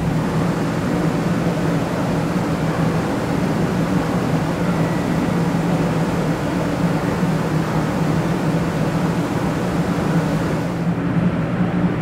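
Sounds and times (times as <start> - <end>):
static-like hiss: 0.0 - 10.9
air conditioning hum: 0.0 - 12.0.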